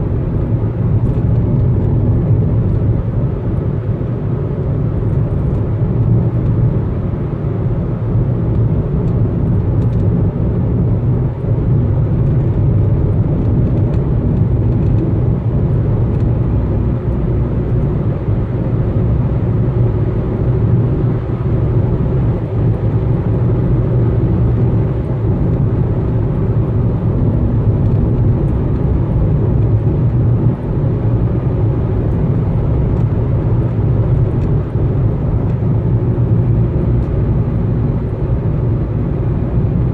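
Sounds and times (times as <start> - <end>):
road and engine rumble in car: 0.0 - 39.9.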